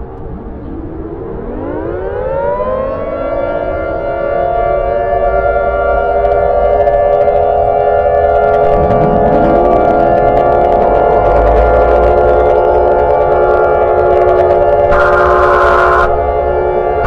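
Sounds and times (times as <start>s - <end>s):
civil defense siren winding up: 0.2s - 17.0s.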